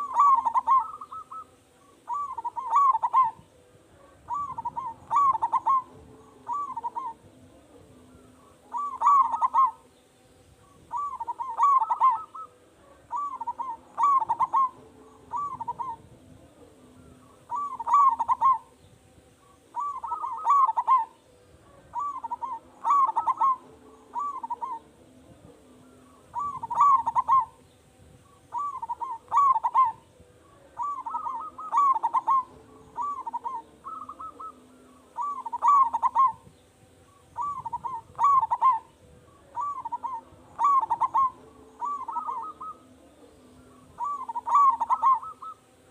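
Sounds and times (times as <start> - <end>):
dove cooing: 0.0 - 10.0, 10.6 - 45.9.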